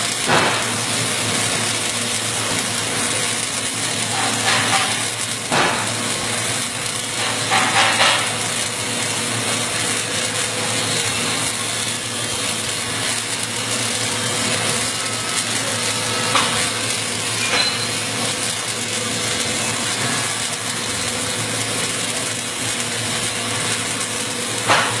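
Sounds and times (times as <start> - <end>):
welding arc crackling and hissing: 0.0 - 25.0.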